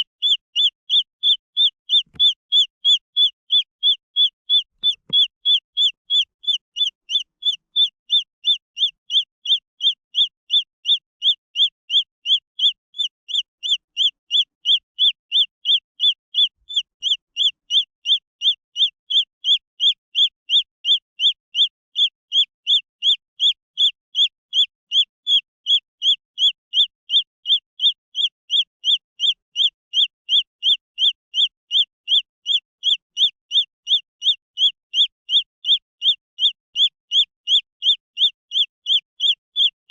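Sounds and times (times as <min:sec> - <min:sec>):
chick peeping: 0:00.0 - 0:39.8.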